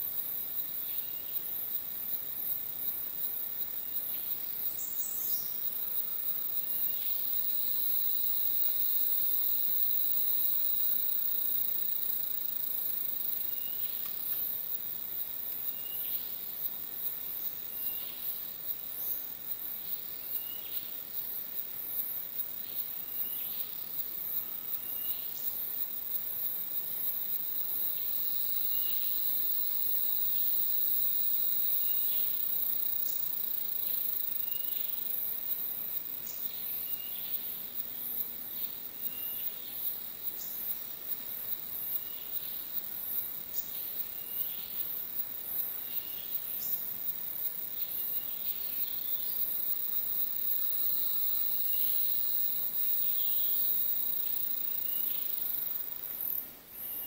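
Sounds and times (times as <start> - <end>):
insect chirps: 0.0 - 57.0
insects buzzing: 0.0 - 57.0.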